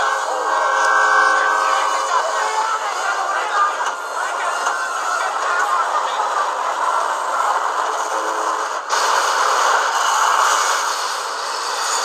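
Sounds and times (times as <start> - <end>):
freight train rushing and clattering: 0.0 - 12.0.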